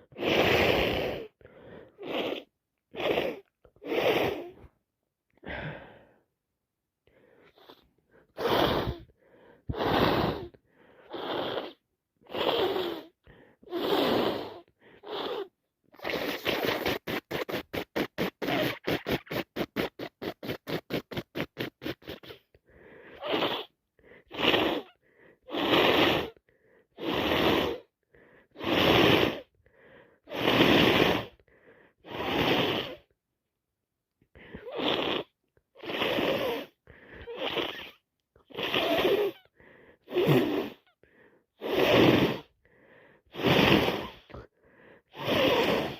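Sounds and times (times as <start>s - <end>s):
person sniffing through blocked nose: 0.0s - 4.7s, 7.3s - 26.4s, 27.0s - 33.1s, 34.4s - 45.9s.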